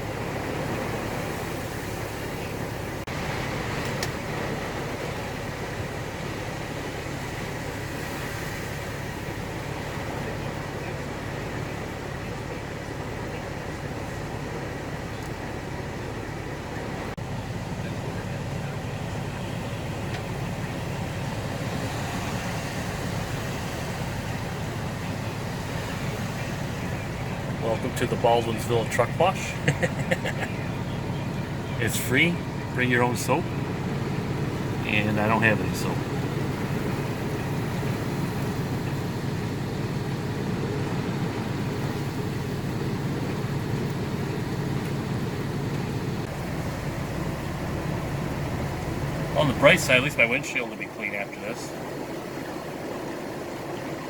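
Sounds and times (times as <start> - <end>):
heavy rain: 0.0 - 54.0
truck engine and road noise: 0.0 - 54.0.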